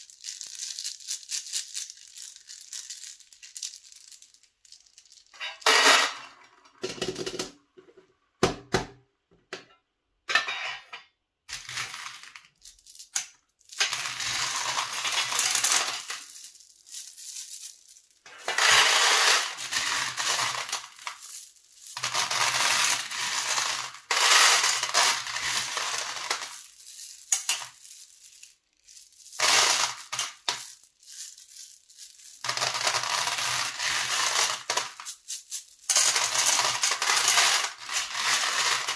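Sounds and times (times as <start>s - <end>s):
candies pouring into metal tins: 0.0s - 7.4s, 11.5s - 38.9s.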